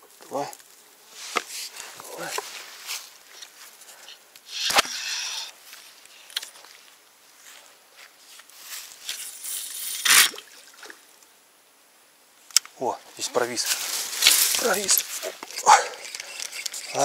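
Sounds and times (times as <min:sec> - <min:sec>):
grass and clothing rustling: 0:00.0 - 0:11.3, 0:12.4 - 0:17.0.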